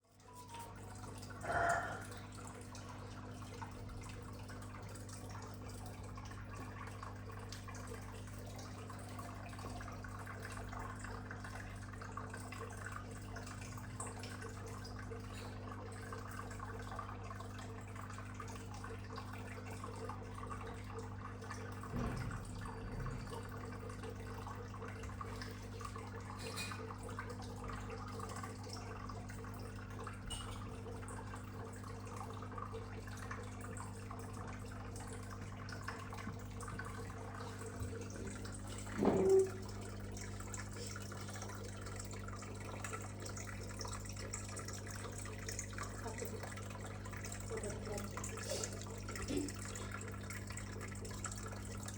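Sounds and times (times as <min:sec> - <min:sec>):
aquarium filter humming: 0:00.0 - 0:51.9
water trickling and dripping: 0:00.1 - 0:51.9.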